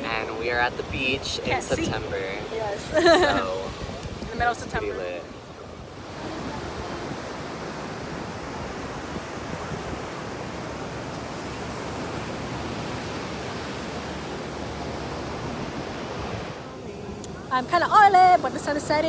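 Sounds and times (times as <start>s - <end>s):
ocean surf breaking on beach: 0.0s - 18.9s.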